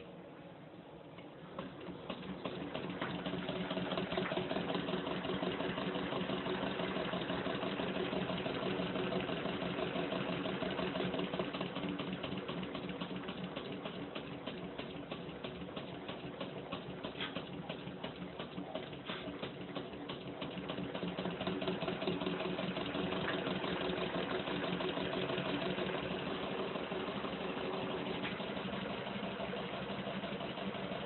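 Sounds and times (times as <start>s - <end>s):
model engine ticking: 1.6s - 31.0s.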